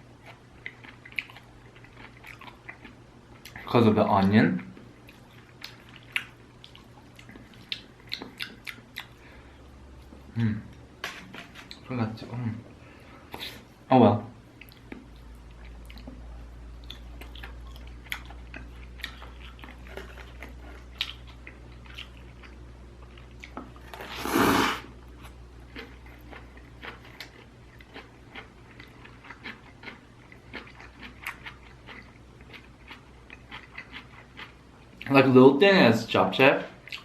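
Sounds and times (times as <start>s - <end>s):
person chewing food: 0.1s - 3.7s, 4.6s - 11.8s, 14.5s - 35.1s, 36.8s - 37.0s.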